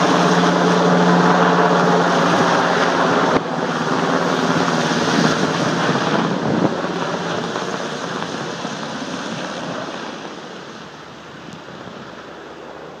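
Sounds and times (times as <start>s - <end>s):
helicopter rotor noise: 0.0s - 13.0s.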